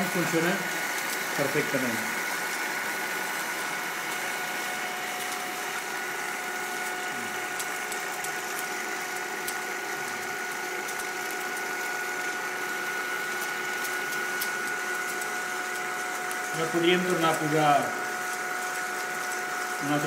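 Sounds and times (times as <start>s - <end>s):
film projector whirring: 0.0s - 20.0s.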